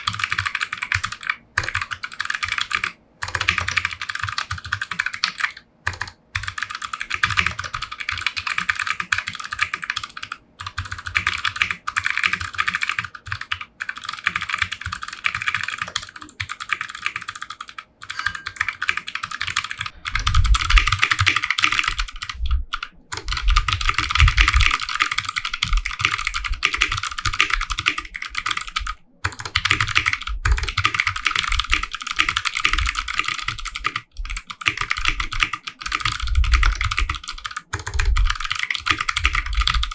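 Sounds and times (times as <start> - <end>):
fast typing on clicky keyboard: 0.0 - 39.9.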